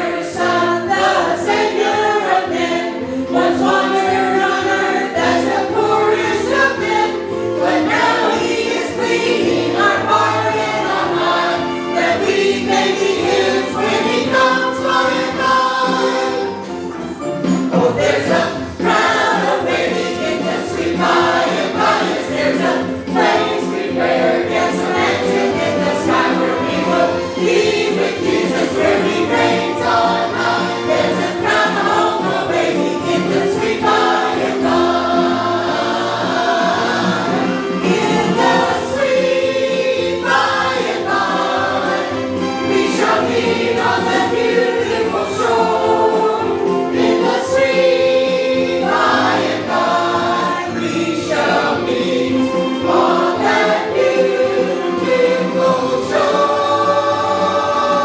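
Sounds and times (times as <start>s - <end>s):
congregation singing worship song: 0.0s - 58.0s.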